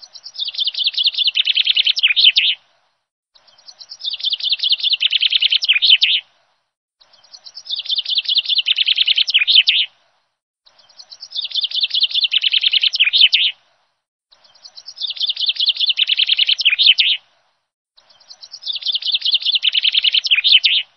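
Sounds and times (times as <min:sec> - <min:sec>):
bird chirping and trilling: 0:00.0 - 0:02.6, 0:03.4 - 0:06.3, 0:07.0 - 0:09.9, 0:10.7 - 0:13.6, 0:14.3 - 0:17.2, 0:18.0 - 0:20.9.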